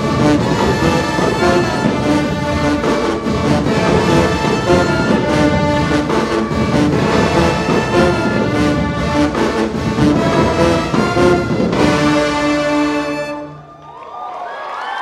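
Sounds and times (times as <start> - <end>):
marching drums: 0.0 - 13.4
brass section playing: 0.0 - 13.7.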